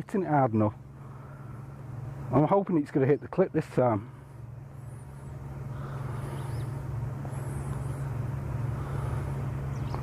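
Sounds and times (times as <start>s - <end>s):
motorboat engine drone: 0.0s - 10.0s.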